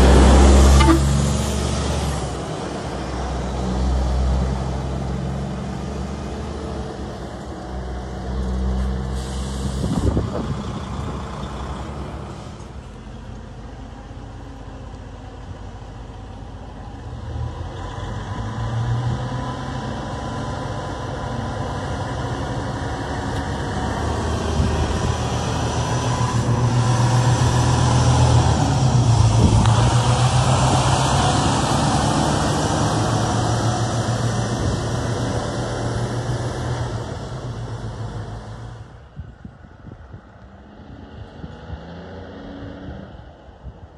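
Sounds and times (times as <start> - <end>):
truck diesel engine accelerating: 0.0 - 39.1, 40.4 - 43.6.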